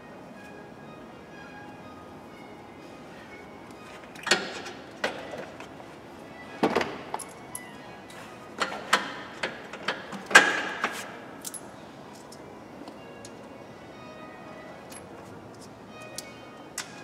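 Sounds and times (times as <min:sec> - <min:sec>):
faint background music: 0:00.0 - 0:17.0.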